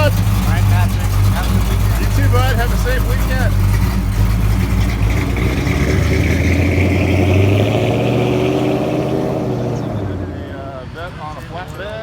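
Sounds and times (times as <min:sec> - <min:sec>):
car engine pulling away: 0:00.0 - 0:11.6.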